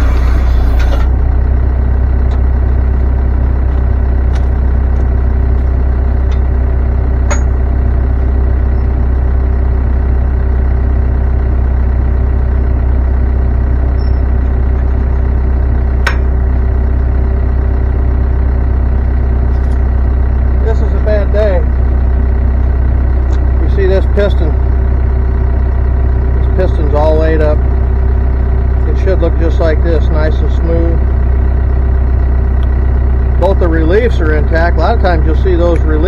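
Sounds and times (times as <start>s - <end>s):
engine idling drone: 0.0s - 36.0s.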